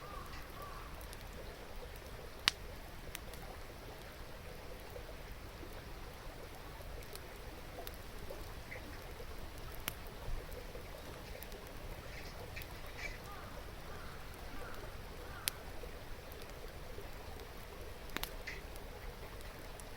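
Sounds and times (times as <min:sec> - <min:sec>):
campfire crackling: 0:00.0 - 0:19.9
river babbling: 0:00.0 - 0:19.9.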